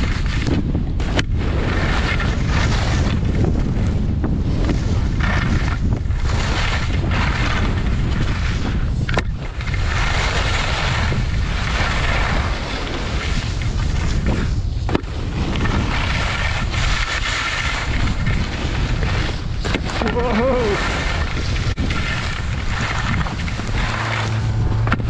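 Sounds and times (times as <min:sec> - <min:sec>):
skis scraping on packed snow: 0:00.0 - 0:25.0
wind buffeting microphone: 0:00.0 - 0:25.0.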